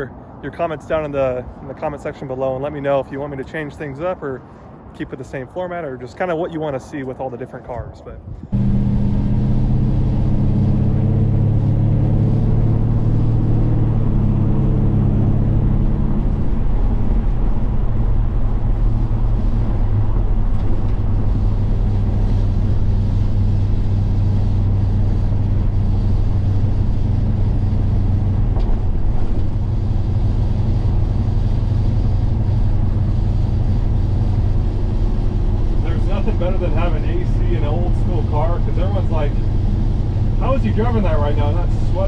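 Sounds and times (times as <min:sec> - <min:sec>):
engine low drone: 0:00.0 - 0:03.1, 0:07.0 - 0:42.0
road noise: 0:00.0 - 0:42.0.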